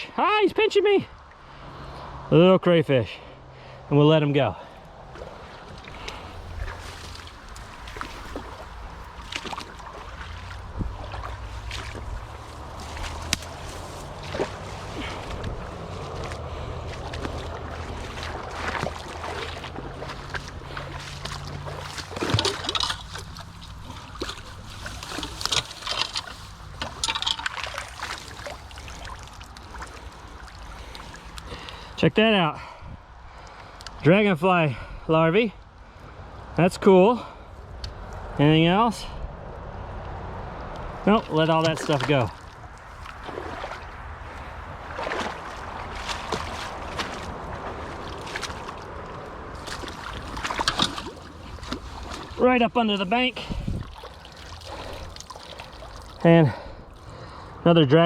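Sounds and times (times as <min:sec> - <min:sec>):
creek water splashing: 0:03.2 - 0:39.1, 0:39.7 - 0:58.0.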